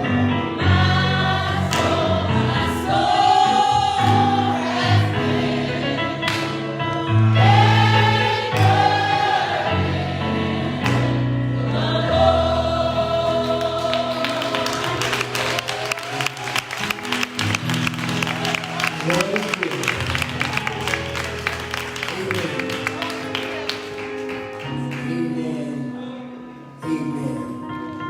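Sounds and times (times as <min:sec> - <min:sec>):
choir singing gospel: 0:00.0 - 0:27.8.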